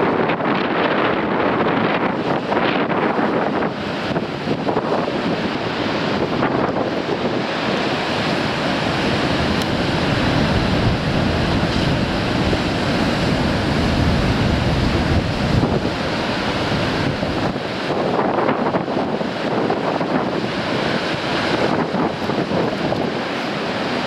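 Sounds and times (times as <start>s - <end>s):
wind buffeting microphone: 0.0s - 24.0s
waves breaking on rocks: 0.1s - 24.0s.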